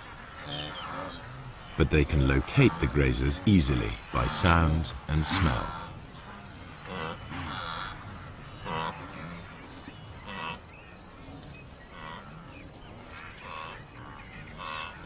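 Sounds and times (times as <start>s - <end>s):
animals grunting cries: 0.0s - 15.0s
crickets chirring: 0.0s - 15.0s.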